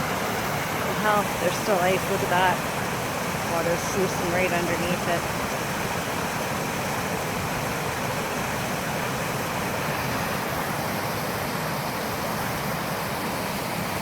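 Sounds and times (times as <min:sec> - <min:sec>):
rushing creek water: 0:00.0 - 0:14.0.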